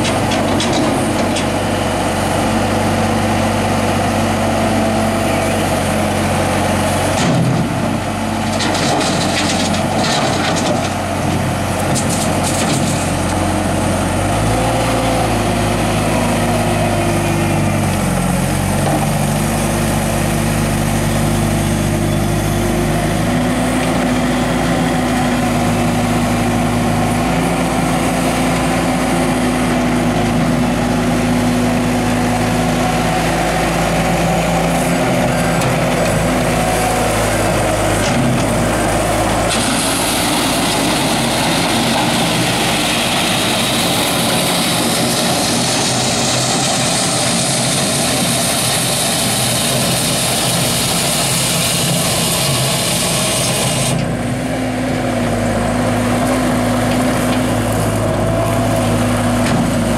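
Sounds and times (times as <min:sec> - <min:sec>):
loader diesel engine running: 0:00.0 - 0:59.9.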